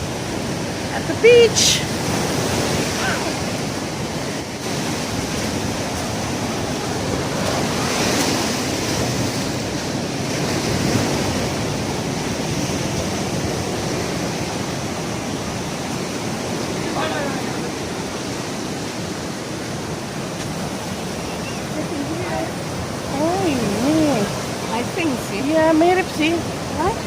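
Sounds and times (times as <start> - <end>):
ocean surf breaking: 0.0 - 27.0.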